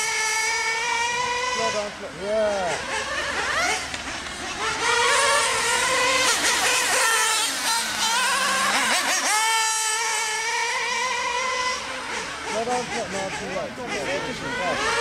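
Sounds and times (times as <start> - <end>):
model car engines whining: 0.0 - 15.0.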